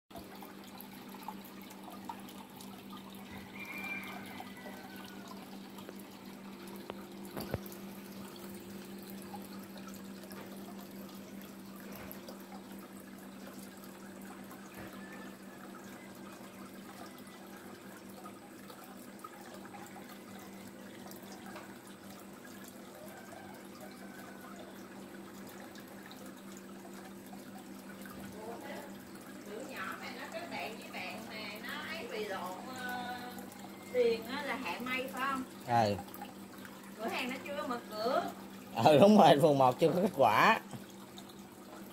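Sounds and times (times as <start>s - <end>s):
water splashing into pond: 0.2s - 41.9s.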